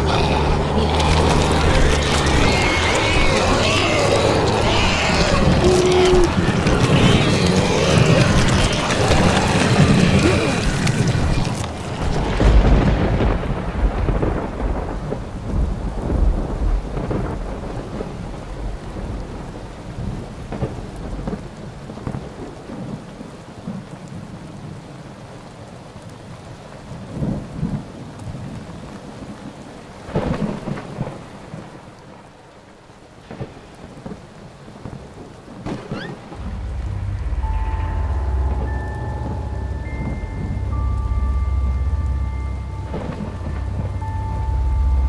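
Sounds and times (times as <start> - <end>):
thunder rumbling: 0.0 - 24.8, 33.2 - 45.0
heavy rain: 0.0 - 45.0.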